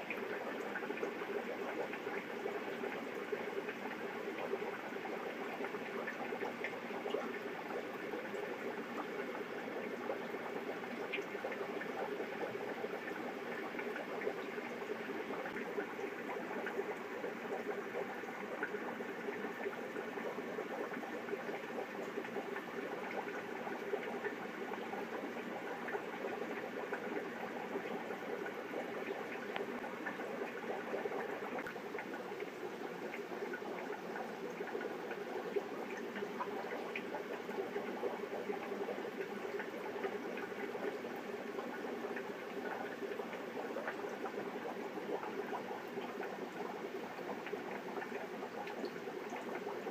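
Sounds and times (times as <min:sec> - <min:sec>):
sponge filter bubbling: 0:00.0 - 0:49.9.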